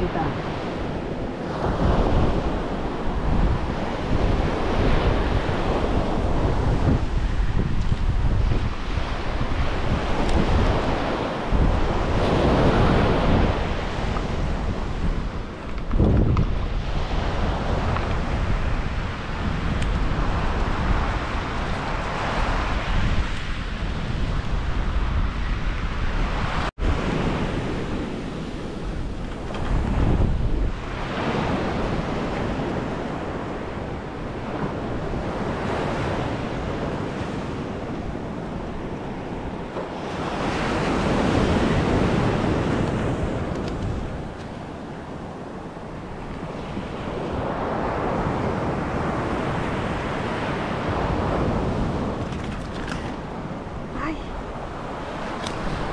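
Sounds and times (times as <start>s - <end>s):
ocean surf on sandy beach: 0.0s - 55.9s
wind buffeting microphone: 0.0s - 55.9s.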